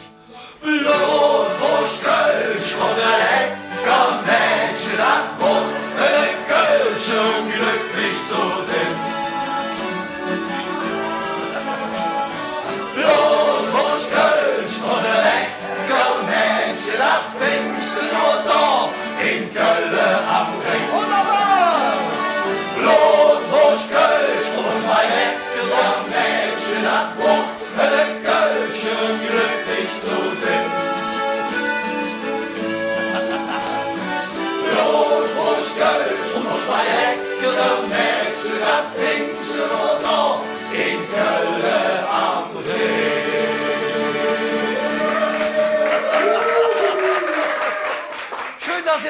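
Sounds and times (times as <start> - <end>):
strummed acoustic guitars: 0.0 - 45.8
accordion: 0.0 - 45.9
men singing in chorus: 0.6 - 10.1, 11.4 - 31.6, 33.2 - 45.8
tambourine shaking: 0.9 - 47.0
mandolin: 1.3 - 45.8.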